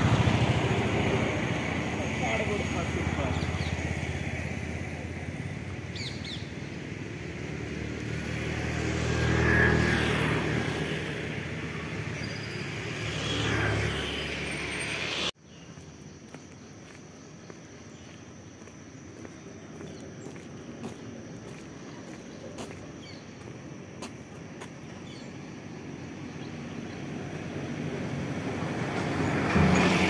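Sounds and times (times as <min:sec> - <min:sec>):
outdoor background noise: 0:00.0 - 0:30.0
vehicles passing on road: 0:00.0 - 0:30.0.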